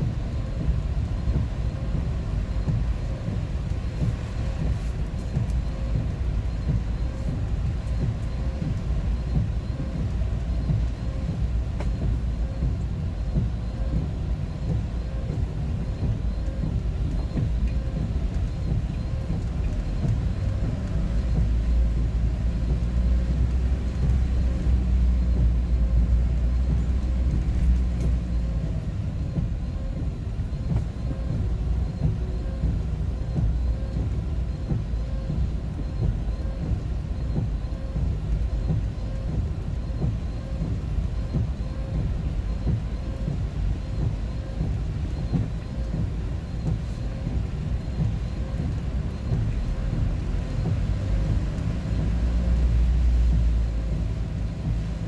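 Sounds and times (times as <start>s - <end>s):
road and engine rumble in cabin: 0.0s - 55.0s.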